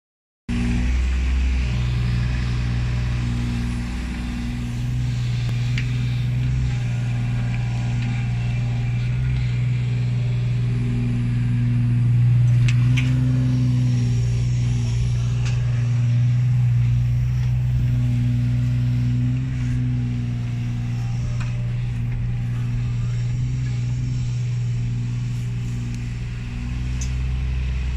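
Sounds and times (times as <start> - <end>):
excavator diesel engine under load: 0.5 - 27.9.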